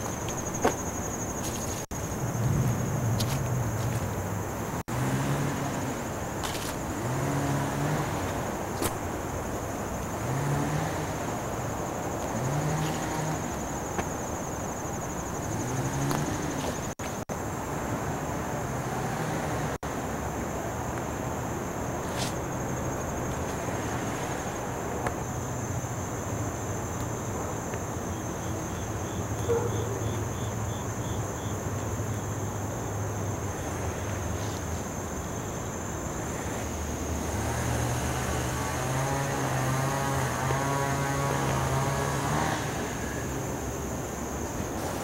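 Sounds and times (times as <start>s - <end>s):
insect chorus shrilling: 0.0s - 17.2s, 21.9s - 45.0s.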